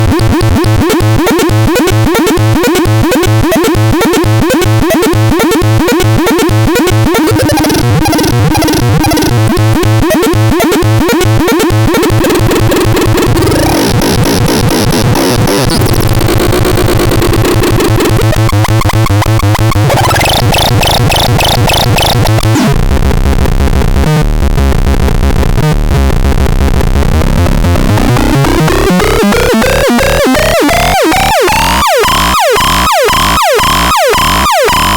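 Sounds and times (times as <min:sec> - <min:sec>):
harsh pulsing synthesizer: 0:00.0 - 0:34.9
rising synthesizer pitch sweep: 0:01.3 - 0:22.7, 0:27.1 - 0:34.9.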